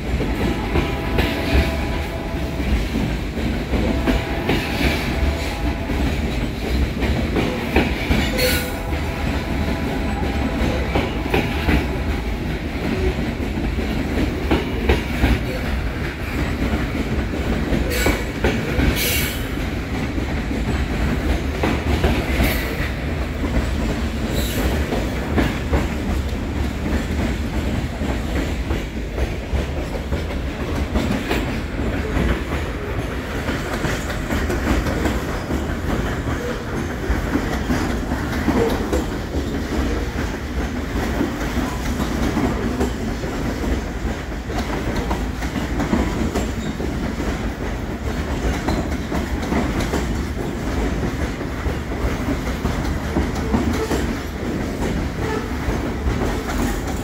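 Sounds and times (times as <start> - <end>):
freight train rumbling past: 0.0 - 57.0
wheels clacking on rails: 0.0 - 57.0.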